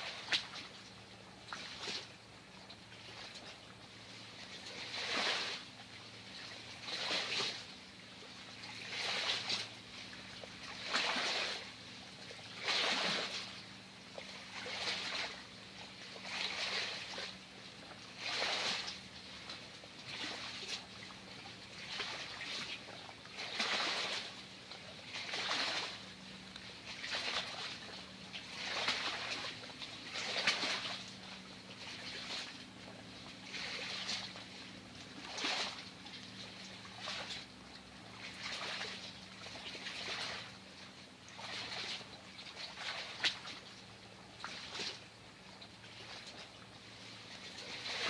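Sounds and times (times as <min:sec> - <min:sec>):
water swishing: 0:00.0 - 0:48.0.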